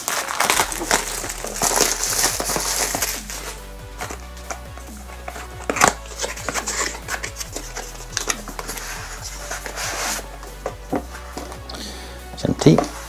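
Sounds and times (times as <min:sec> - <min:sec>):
card flaps rustling: 0:00.0 - 0:11.7
cellophane wrap crinkling: 0:00.0 - 0:11.8
background music with held notes: 0:00.0 - 0:13.0.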